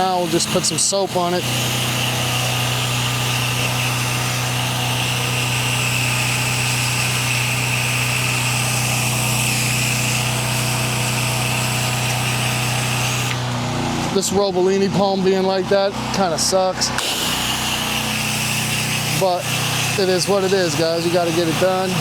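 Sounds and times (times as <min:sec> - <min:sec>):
spray wand hissing: 0:00.0 - 0:13.4, 0:17.0 - 0:22.0
pressure washer engine running: 0:00.0 - 0:22.0.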